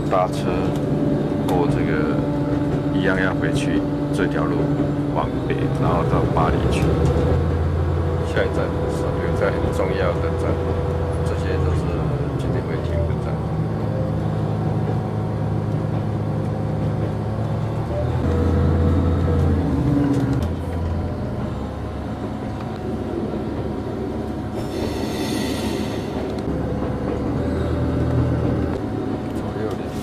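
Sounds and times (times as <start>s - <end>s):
railcar engine drone: 0.0s - 30.0s.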